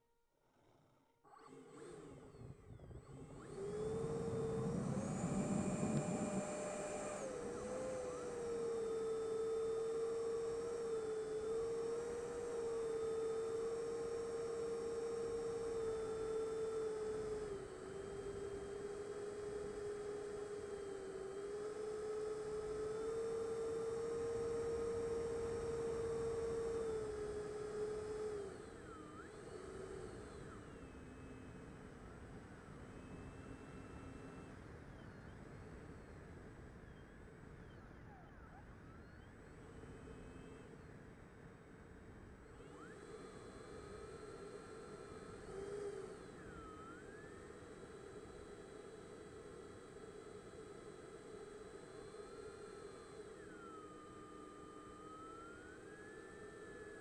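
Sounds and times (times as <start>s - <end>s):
electric motor whine: 0.5s - 57.0s.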